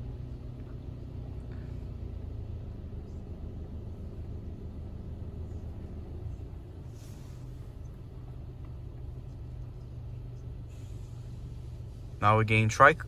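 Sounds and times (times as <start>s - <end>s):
car wash low rumble: 0.0s - 13.0s.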